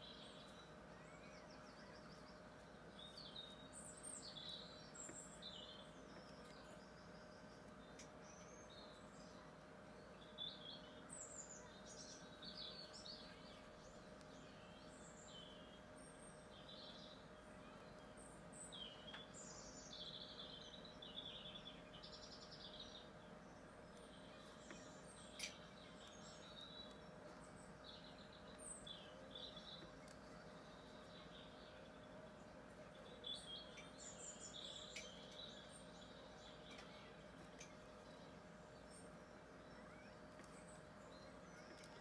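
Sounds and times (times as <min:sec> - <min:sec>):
faint steady hum: 0:00.0 - 0:42.0
small birds chirping: 0:00.0 - 0:42.0.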